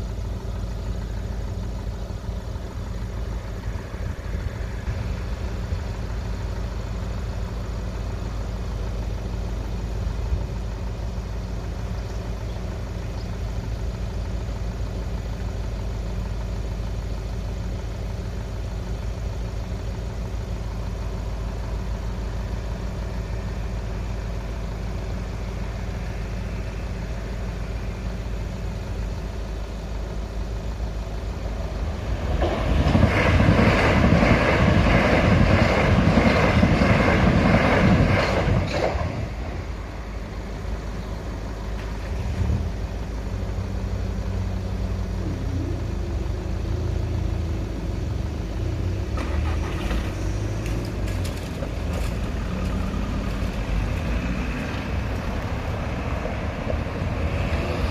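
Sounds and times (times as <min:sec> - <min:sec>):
electric train passing: 0:00.0 - 0:11.8, 0:20.2 - 0:57.9
car engines idling: 0:00.0 - 0:57.9
hum of crossing barriers rising: 0:00.0 - 0:57.9.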